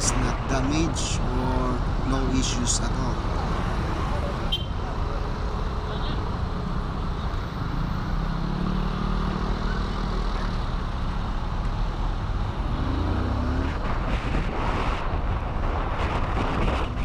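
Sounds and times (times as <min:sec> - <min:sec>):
car engines running: 0:00.0 - 0:17.0
road noise rush: 0:00.0 - 0:17.0.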